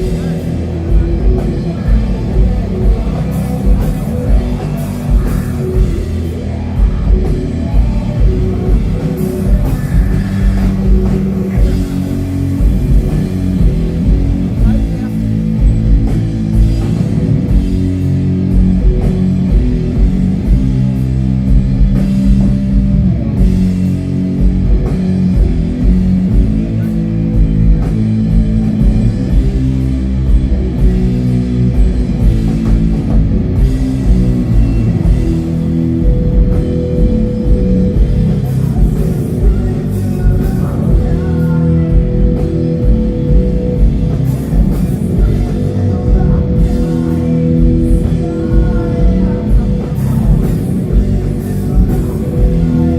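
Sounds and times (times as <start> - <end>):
metal band playing live: 0.0 - 52.9.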